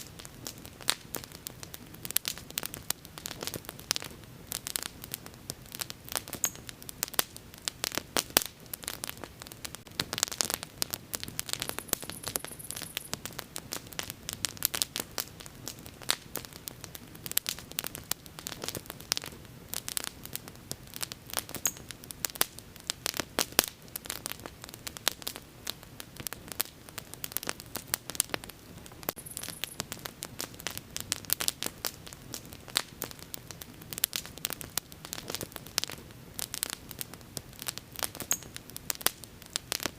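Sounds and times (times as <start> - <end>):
bonfire crackling: 0.0 - 39.9.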